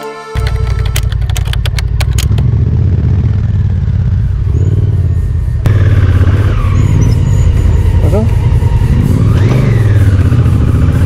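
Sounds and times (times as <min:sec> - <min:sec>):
motorcycle engine running: 0:00.4 - 0:11.0.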